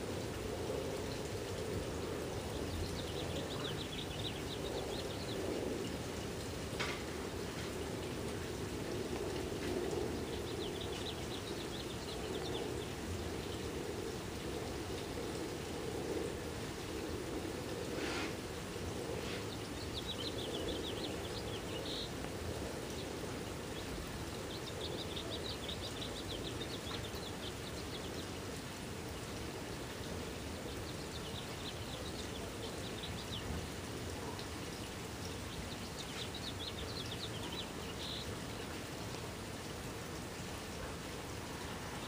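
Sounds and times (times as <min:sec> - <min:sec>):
low background hiss: 0:00.0 - 0:42.0.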